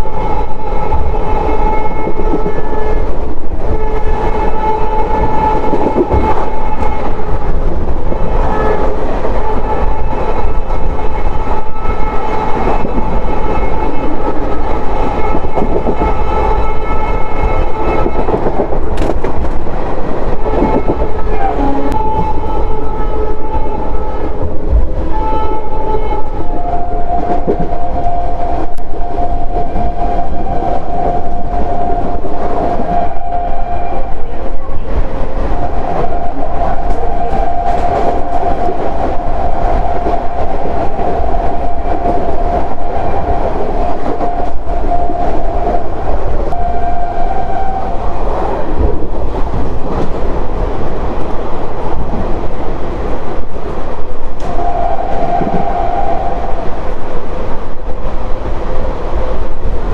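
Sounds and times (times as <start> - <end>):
train horn: 0.0 - 19.3, 20.3 - 49.1, 54.3 - 57.6
train wheels rumbling on track: 0.0 - 59.9.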